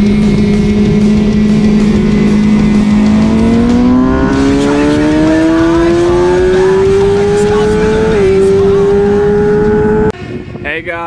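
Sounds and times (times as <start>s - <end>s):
motorcycle engine accelerating: 0.0s - 10.2s.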